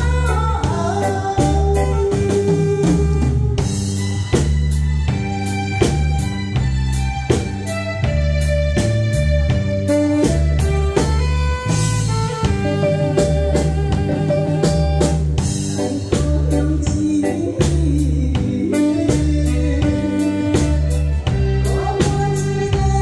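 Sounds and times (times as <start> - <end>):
bass: 0.0 - 23.0
drum kit steady beat: 0.0 - 23.0
guitar: 0.0 - 23.0.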